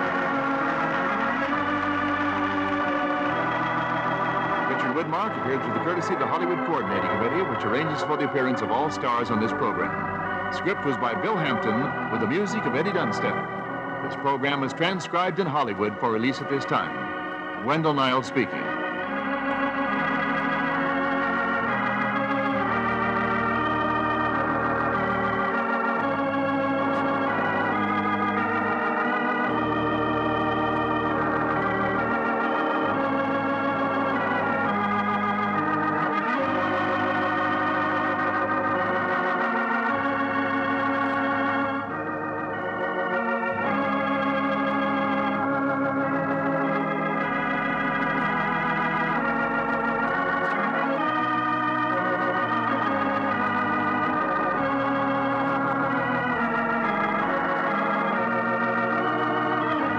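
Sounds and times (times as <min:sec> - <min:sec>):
organ music: 0:00.0 - 0:59.9.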